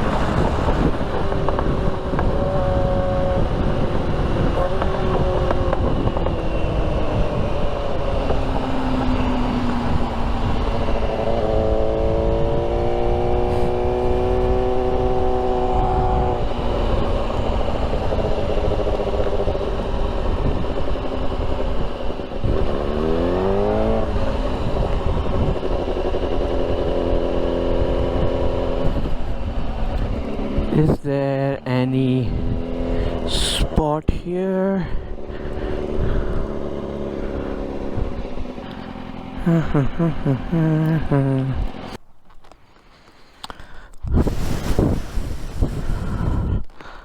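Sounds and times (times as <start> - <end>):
motorcycle engine running: 0.0 - 34.0, 34.7 - 42.0.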